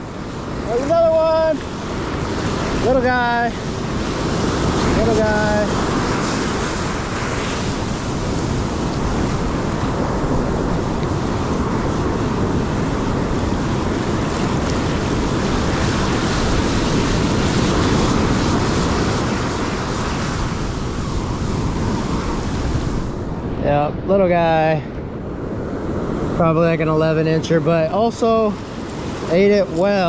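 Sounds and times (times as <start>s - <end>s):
ocean surf washing in: 0.0s - 30.0s
wind buffeting microphone: 0.0s - 30.0s.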